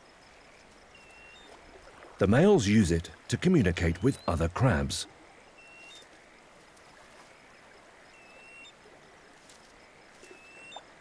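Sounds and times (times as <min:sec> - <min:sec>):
soft hiss of water and breeze: 0:00.0 - 0:11.0.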